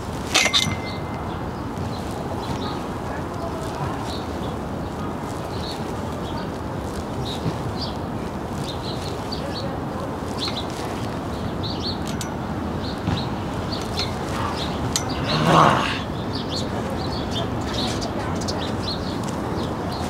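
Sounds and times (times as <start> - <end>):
city ambience rumble and hiss: 0.0 - 20.0
small birds chirping: 0.1 - 20.0.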